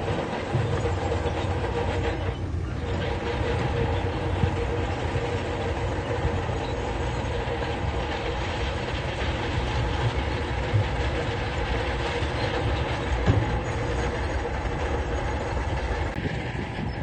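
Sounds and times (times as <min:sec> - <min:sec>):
diesel engine running under work: 0:00.0 - 0:17.0.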